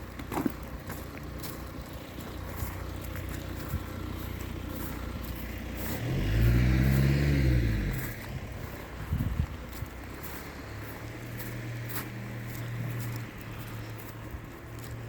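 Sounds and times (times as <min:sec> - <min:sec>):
traffic hum: 0:00.0 - 0:15.0
car passing: 0:01.5 - 0:15.0.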